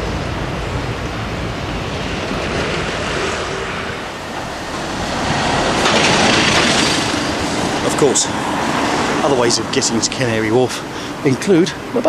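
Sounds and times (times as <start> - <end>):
vehicle passing close: 0.0 - 11.4
road traffic noise: 0.0 - 12.0.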